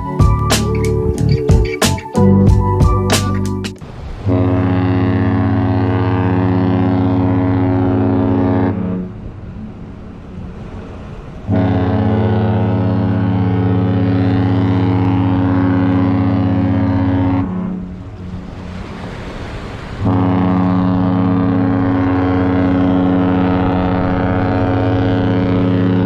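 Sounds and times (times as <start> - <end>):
deep ship horn blasts: 3.8 - 26.0.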